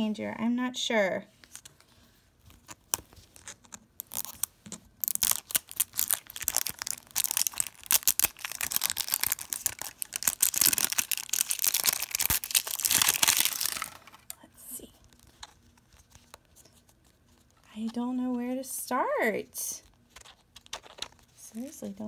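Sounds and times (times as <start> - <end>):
plastic wrapping crinkling and tearing: 1.4 - 17.7, 19.9 - 22.0.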